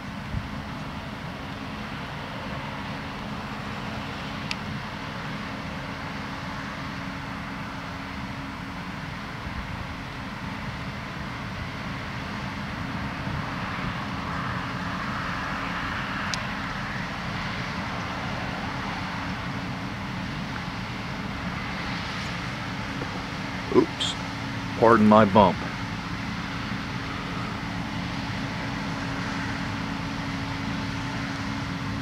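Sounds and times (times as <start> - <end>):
combine harvester droning: 0.0 - 32.0.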